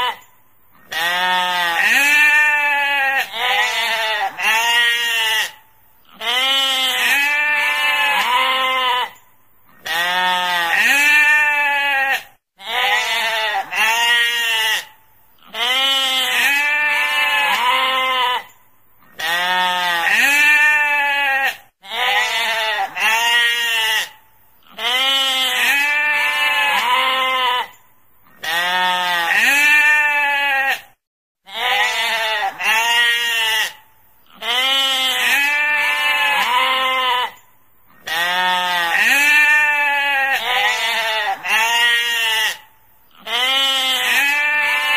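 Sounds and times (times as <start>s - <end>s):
sheep bleating: 0.8s - 44.9s.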